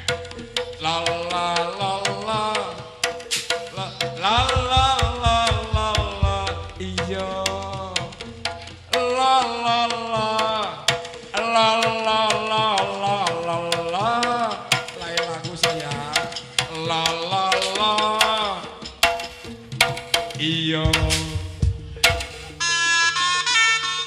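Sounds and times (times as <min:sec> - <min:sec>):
hand drums beating: 0:00.0 - 0:22.6.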